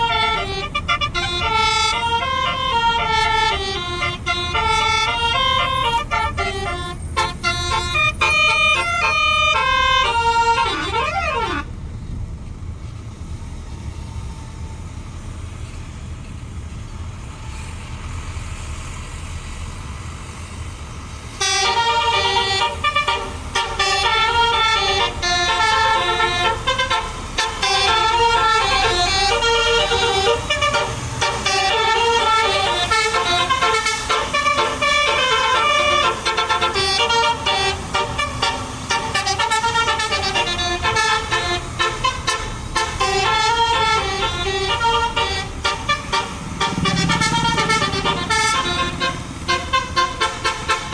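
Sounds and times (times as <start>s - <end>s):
musical bus horn melody: 0.0s - 11.8s, 21.3s - 50.9s
low engine rumble: 0.0s - 50.9s.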